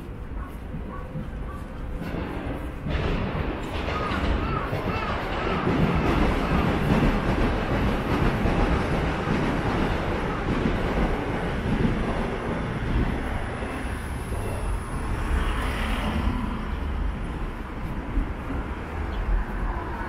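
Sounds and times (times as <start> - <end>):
passing train rumble: 0.0 - 20.0.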